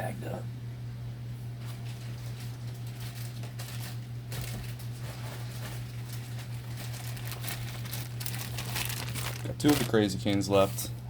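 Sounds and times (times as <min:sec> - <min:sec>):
steady low hum: 0:00.0 - 0:11.0
rustling boxes and plastic bags: 0:01.6 - 0:11.0.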